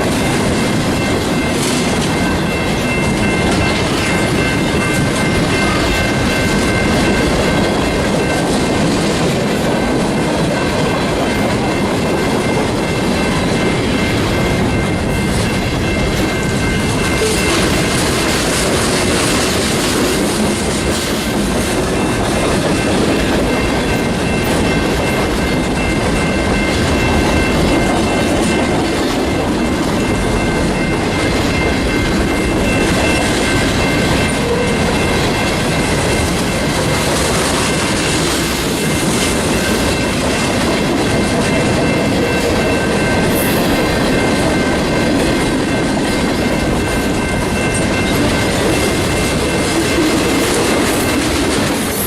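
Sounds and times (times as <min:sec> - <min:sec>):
train wheels clacking: 0:00.0 - 0:52.0.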